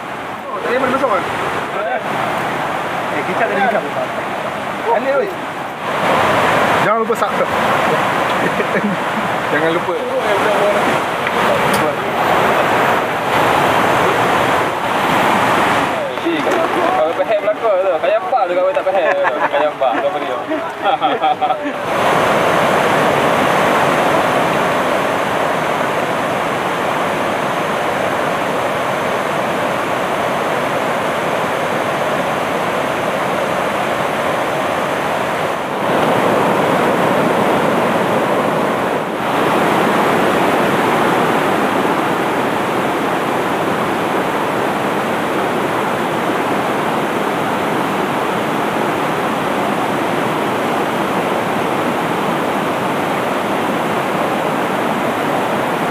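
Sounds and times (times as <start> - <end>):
water rushing over boulders: 0.0 - 55.9.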